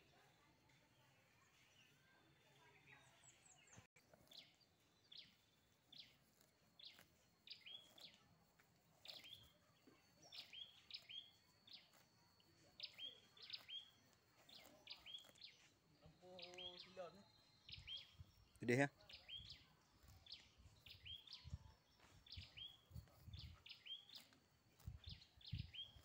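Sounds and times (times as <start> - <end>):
small bird chirping: 1.0 - 26.0.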